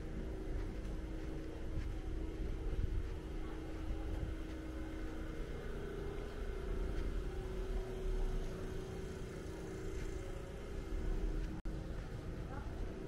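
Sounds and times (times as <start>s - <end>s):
street noise rumble: 0.0s - 13.0s
vehicle engine running: 0.0s - 13.0s.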